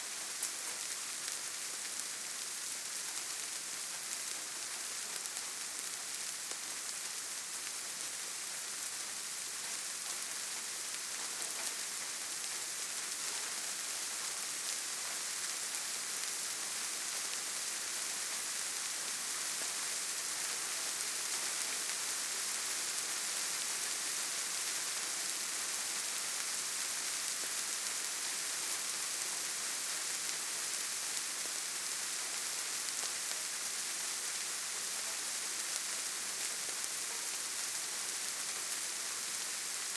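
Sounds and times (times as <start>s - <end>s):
rain pattering on foliage: 0.0s - 39.9s.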